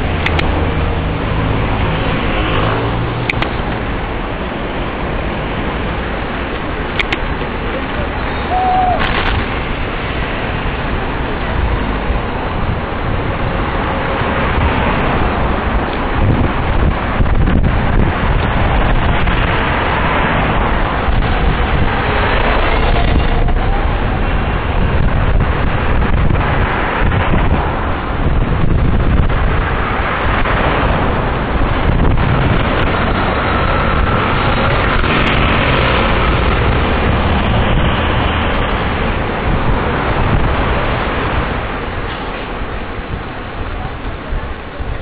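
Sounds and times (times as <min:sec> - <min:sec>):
road traffic: 0:00.0 - 0:45.0
wind rush on microphone: 0:00.0 - 0:45.0.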